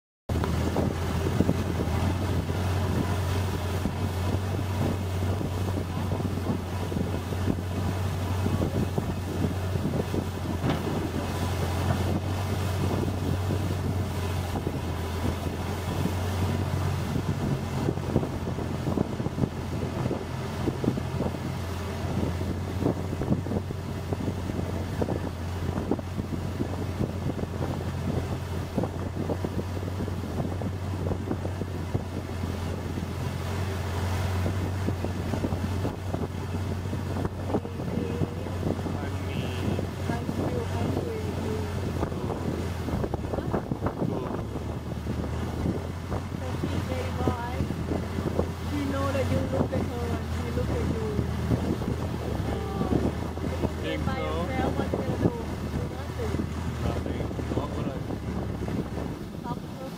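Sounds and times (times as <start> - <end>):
boat engine droning: 0.3 - 59.9
wind buffeting microphone: 0.3 - 59.9.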